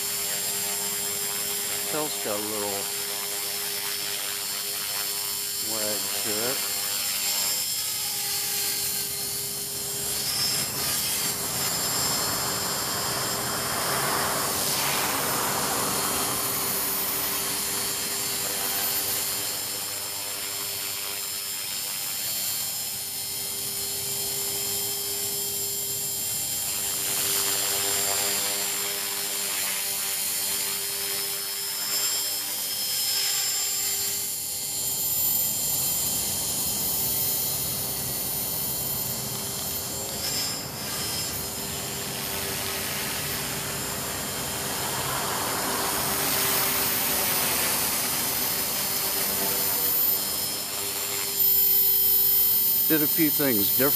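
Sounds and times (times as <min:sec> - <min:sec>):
helicopter rotors whirring: 0:00.0 - 0:53.9
rc helicopter motor whine: 0:00.0 - 0:53.9.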